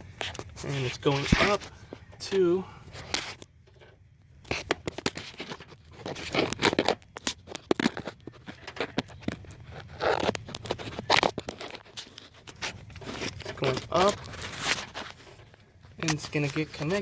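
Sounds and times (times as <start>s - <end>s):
hands handling engine parts: 0.0s - 17.0s.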